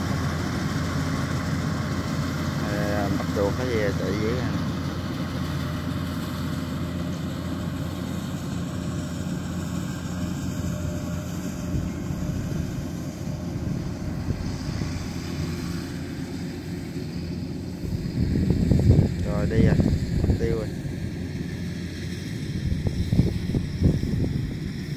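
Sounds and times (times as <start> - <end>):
combine harvester engine drone: 0.0 - 24.9.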